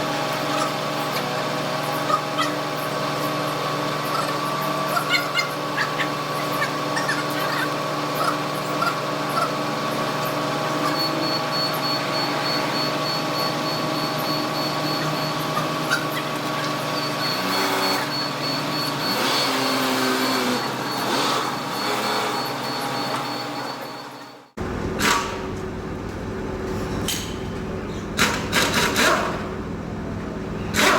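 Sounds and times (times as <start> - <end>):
machine humming: 0.0 - 30.9.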